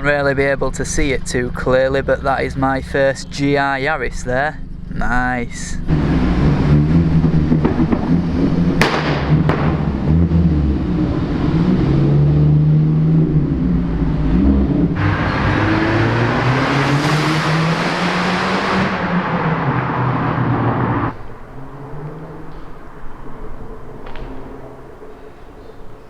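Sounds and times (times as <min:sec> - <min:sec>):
car engine running: 0:00.0 - 0:25.8
road and wind noise: 0:00.0 - 0:26.0.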